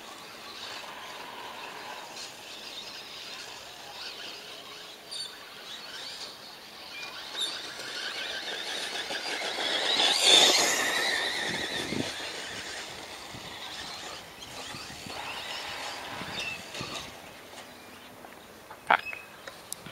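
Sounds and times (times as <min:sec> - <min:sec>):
remote-control car whining: 0:00.0 - 0:19.6.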